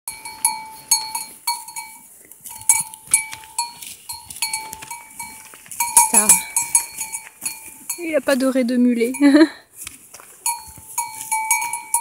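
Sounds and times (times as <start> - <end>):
livestock bell clanking: 0.1 - 9.6, 10.3 - 12.0.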